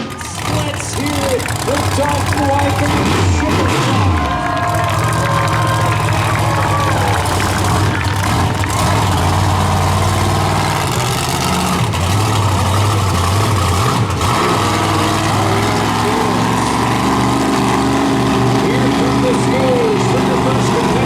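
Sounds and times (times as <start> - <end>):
monster truck engine running: 0.0 - 21.0.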